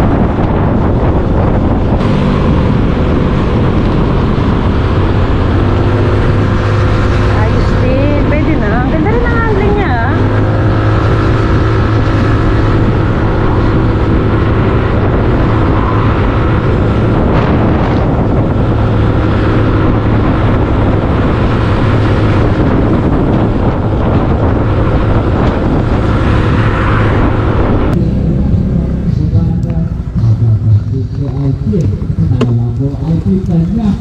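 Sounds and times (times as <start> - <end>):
scooter engine drone: 0.0 - 34.0
wind rush on microphone: 0.0 - 34.0.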